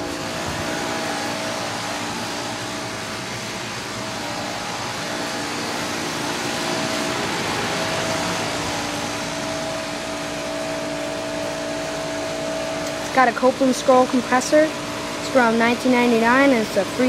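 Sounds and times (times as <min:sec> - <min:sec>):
compressor hum: 0:00.0 - 0:17.0
condenser fan rushing: 0:00.0 - 0:17.0
higher hum tone: 0:00.0 - 0:17.0.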